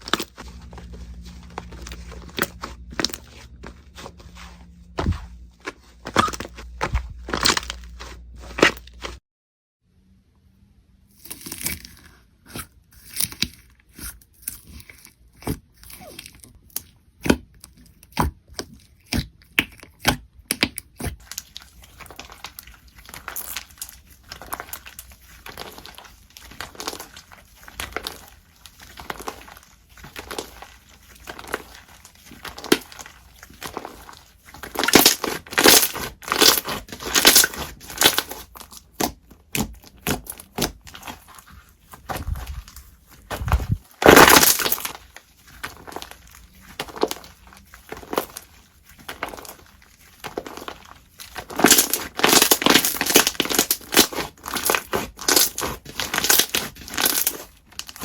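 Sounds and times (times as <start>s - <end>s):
slime crackling: 11.2s - 58.0s.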